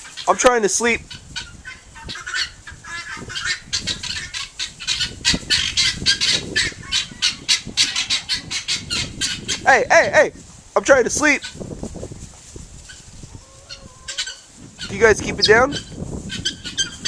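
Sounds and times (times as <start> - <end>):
farm birds squawking: 0.0 - 11.7, 12.8 - 17.0.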